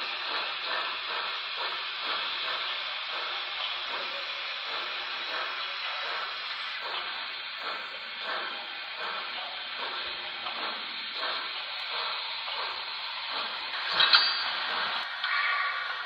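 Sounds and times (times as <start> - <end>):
model steam locomotive chuffing: 0.0 - 16.0.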